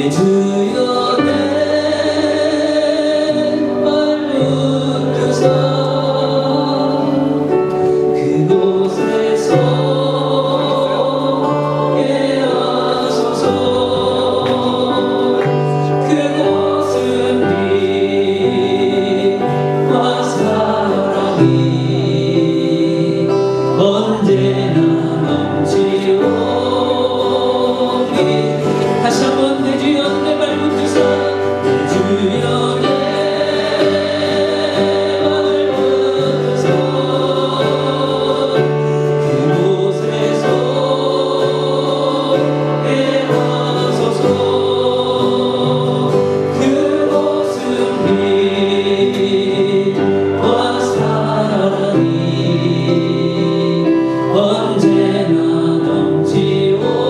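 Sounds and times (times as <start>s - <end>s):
instrumental accompaniment: 0.0s - 57.0s
woman and man singing: 0.0s - 57.0s.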